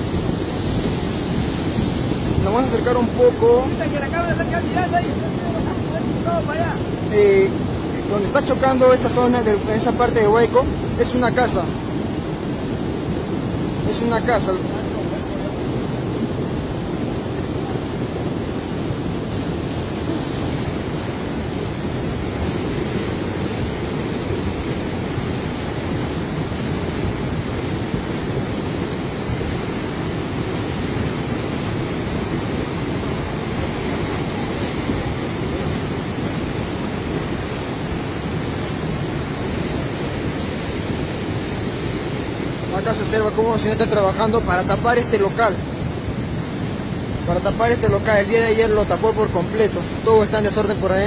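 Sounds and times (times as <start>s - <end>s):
mudflow rushing: 0.0s - 51.0s.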